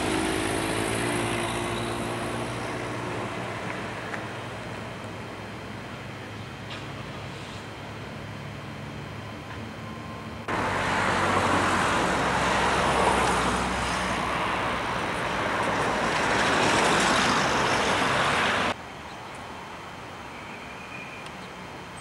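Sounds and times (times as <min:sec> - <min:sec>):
cars passing on road: 0:00.0 - 0:22.0.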